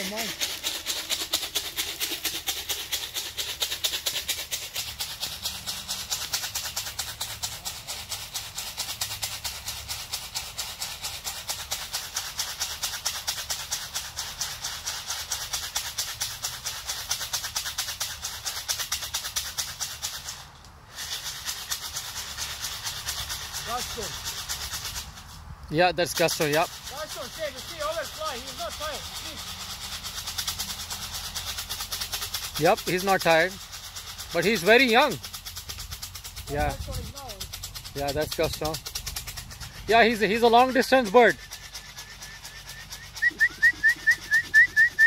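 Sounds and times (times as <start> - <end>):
fast even rattle: 0.0 - 45.0.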